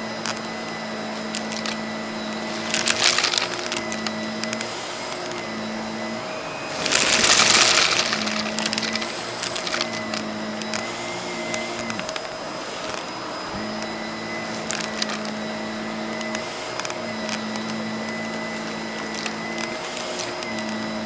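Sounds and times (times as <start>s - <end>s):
vacuum cleaner running: 0.0s - 21.0s
cardboard pieces rattling: 0.3s - 5.4s, 6.7s - 13.1s, 14.4s - 15.5s, 16.1s - 21.0s.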